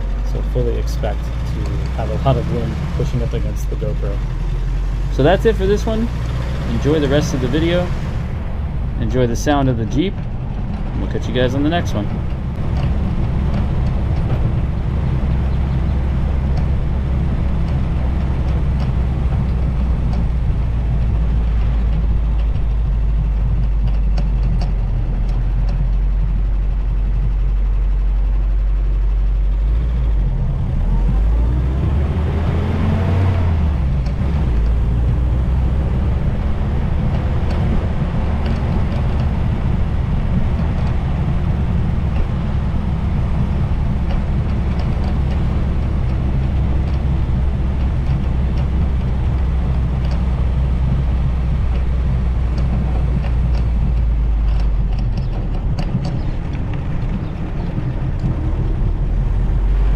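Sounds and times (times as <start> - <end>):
jeep engine running: 0.0 - 59.9.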